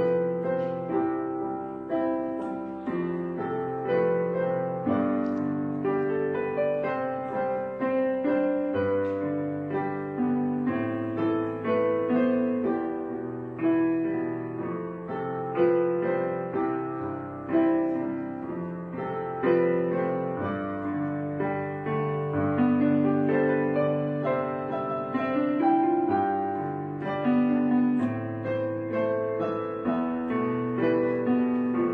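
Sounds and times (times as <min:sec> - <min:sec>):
slow piano music: 0:00.0 - 0:31.9.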